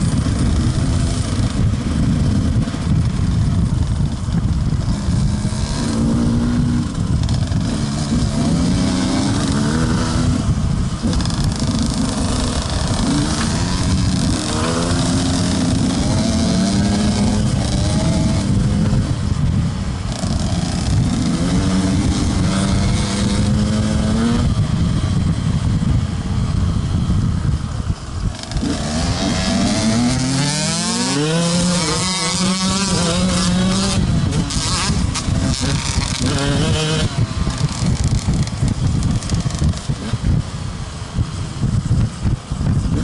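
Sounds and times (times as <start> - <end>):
dirt bike engine revving: 0.0 - 19.5, 20.1 - 24.8, 28.3 - 40.2.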